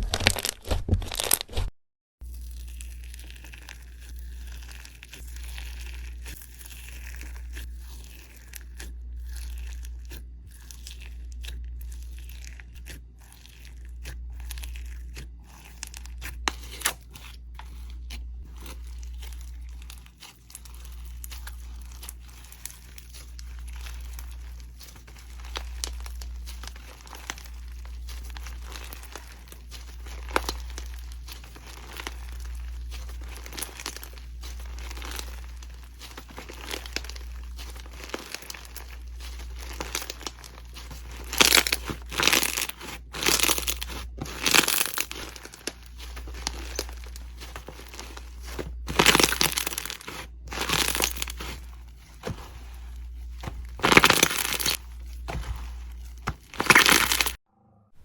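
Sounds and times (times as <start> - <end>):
slime crackling and snapping: 2.3 - 57.4.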